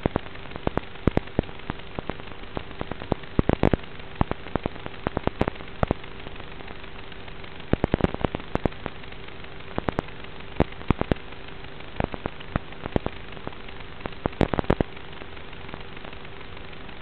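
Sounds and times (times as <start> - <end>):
faint hum: 0.0 - 17.0
sharp crackling pops: 0.0 - 17.0
static hiss: 0.0 - 17.0.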